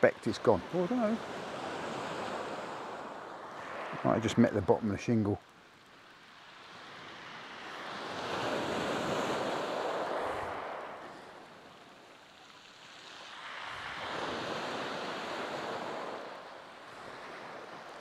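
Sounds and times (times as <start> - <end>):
waves breaking on shingle beach: 0.0 - 18.0.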